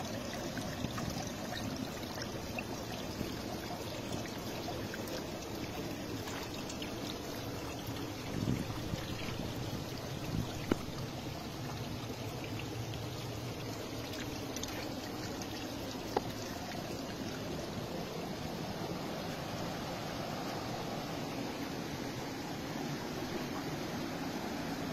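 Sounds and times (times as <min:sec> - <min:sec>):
water trickling and splashing: 0:00.0 - 0:24.9.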